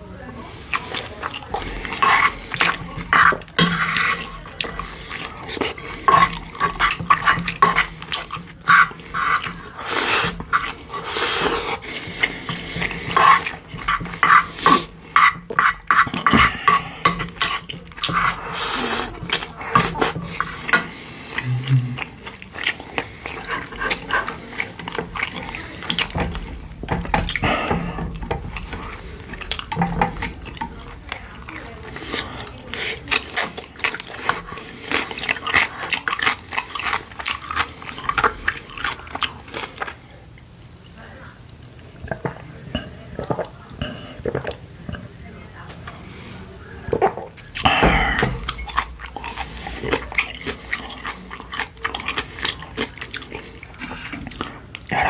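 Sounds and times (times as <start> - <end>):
wet chewing and slurping: 0.0 - 55.0.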